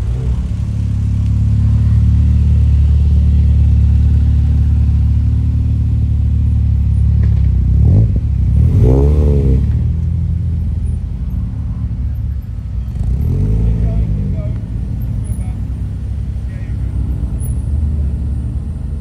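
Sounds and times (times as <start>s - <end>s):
engine revs: 0.0s - 10.6s, 12.8s - 19.0s
car engines droning: 0.0s - 19.0s.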